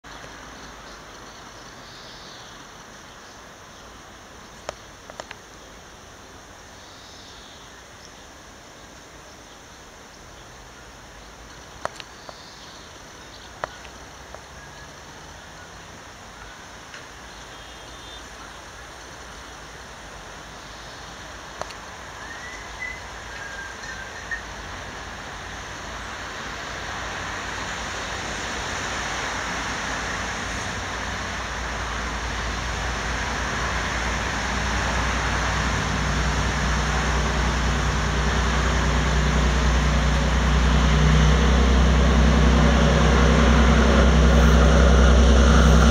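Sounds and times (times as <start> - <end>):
diesel locomotive engine hum: 0.0 - 45.9.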